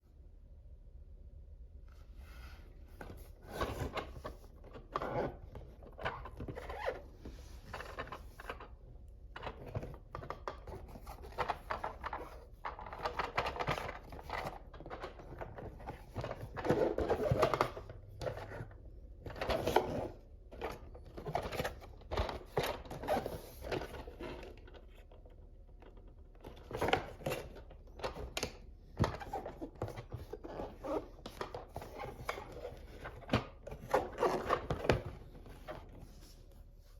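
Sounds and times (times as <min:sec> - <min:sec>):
packaging rustling and scraping: 0:02.2 - 0:08.8, 0:09.4 - 0:25.3, 0:25.9 - 0:36.9.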